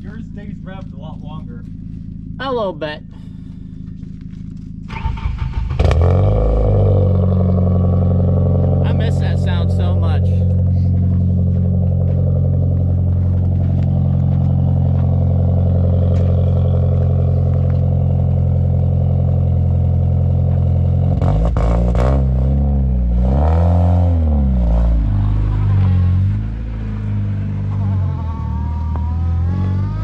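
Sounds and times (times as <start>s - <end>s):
loud car exhaust idling and revving: 0.0s - 30.0s.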